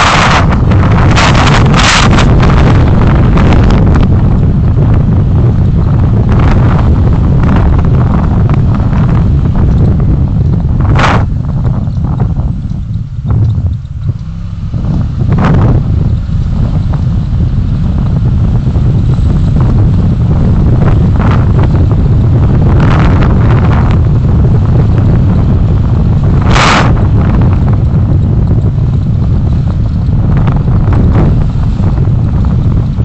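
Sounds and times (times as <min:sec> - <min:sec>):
wind and road rumble: 0:00.0 - 0:33.0
wind buffeting microphone: 0:00.0 - 0:33.0.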